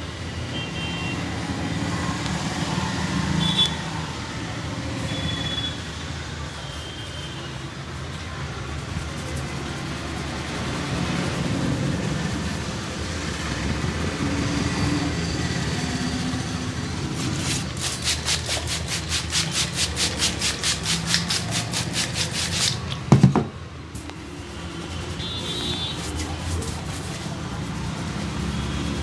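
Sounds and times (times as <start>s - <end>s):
street traffic hum: 0.0s - 29.0s.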